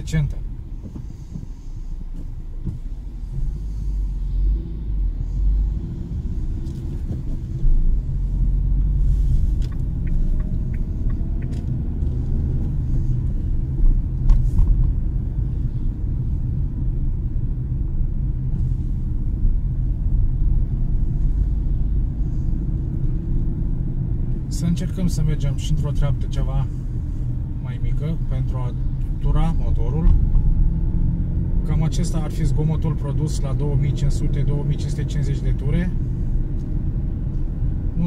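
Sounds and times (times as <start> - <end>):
car cabin engine rumble: 0.0 - 38.0.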